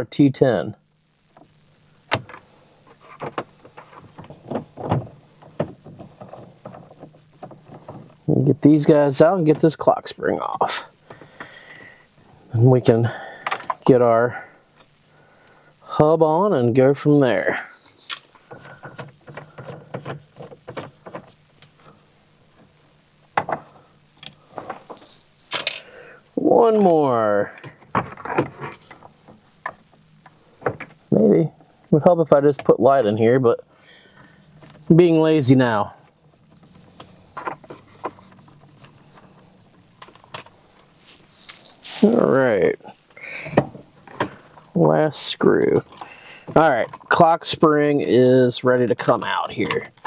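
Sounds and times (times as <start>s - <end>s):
faint low hum: 0.0s - 50.0s.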